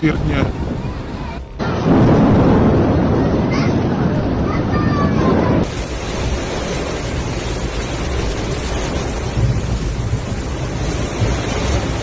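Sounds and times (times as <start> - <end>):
heavy rain: 0.0 - 12.0
storm wind: 0.0 - 12.0
wind gusts buffeting microphone: 0.0 - 12.0.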